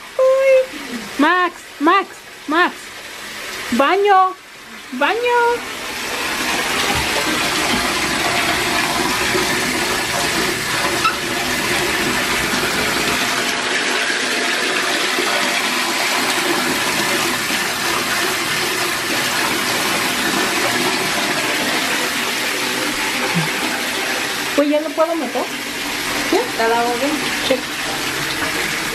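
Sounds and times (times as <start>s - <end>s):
water pouring into bathtub: 0.0s - 28.9s.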